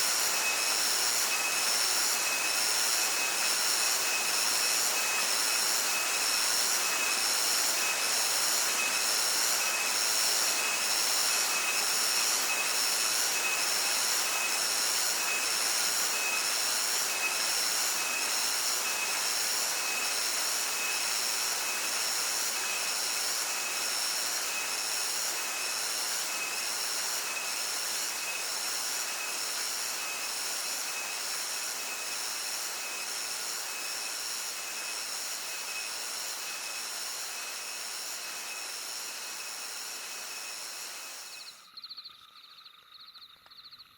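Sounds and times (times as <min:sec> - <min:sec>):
cicadas buzzing: 0:00.0 - 0:43.9.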